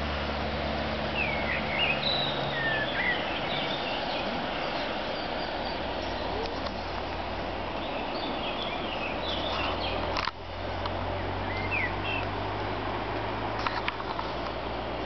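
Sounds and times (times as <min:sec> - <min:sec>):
songbirds chirping: 0:00.0 - 0:15.0
steady outdoor hiss: 0:00.0 - 0:15.0.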